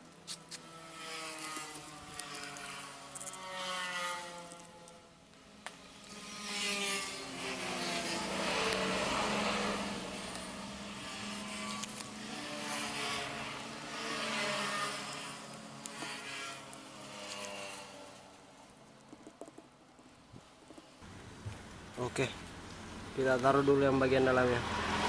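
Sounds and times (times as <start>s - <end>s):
motor vehicles passing: 0.6s - 19.8s, 20.7s - 25.0s.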